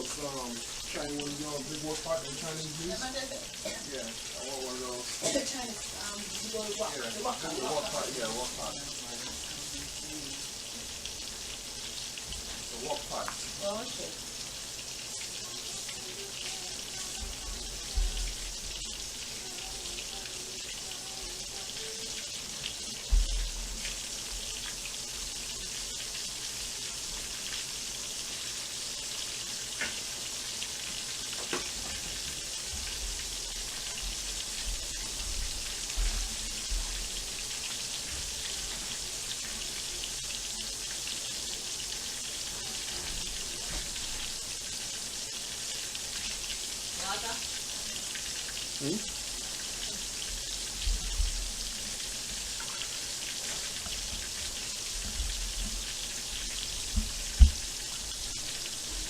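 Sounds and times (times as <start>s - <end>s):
chicken deep-frying in oil: 0.0s - 59.0s.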